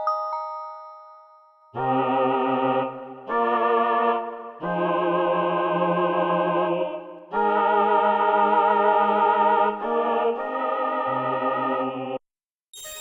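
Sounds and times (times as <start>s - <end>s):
synthesizer held chords: 1.8s - 12.2s.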